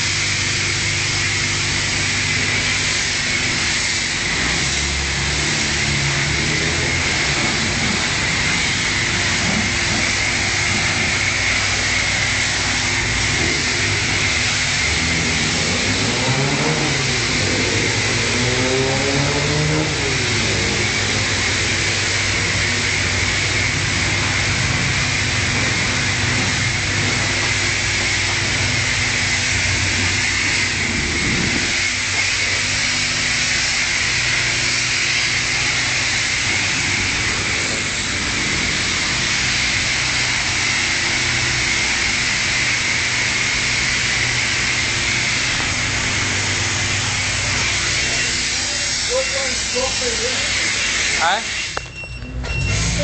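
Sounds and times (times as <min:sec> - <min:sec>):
high-pressure water spray hissing: 0:00.0 - 0:52.0, 0:52.6 - 0:53.0.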